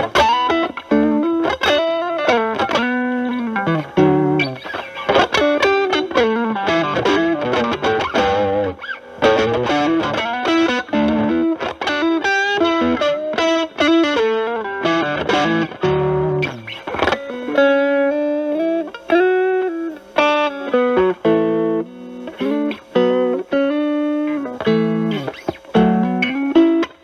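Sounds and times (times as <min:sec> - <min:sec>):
overdriven electric guitar: 0:00.0 - 0:27.0.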